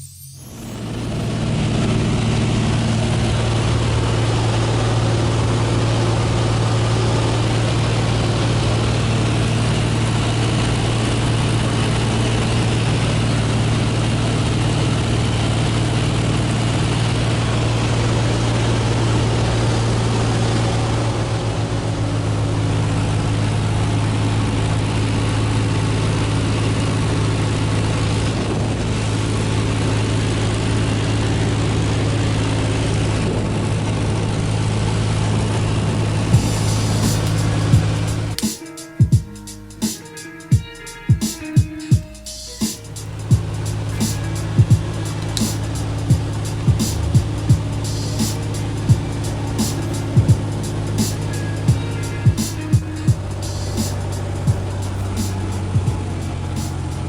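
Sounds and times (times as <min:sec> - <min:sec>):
propeller plane engine droning: 0:00.5 - 0:57.0.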